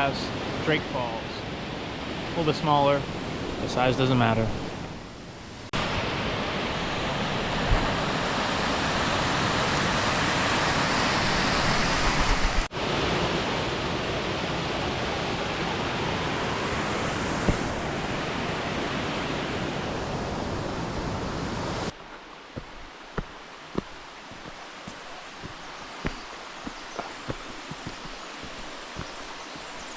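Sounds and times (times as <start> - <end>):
waterfall roaring: 5.8 - 29.9.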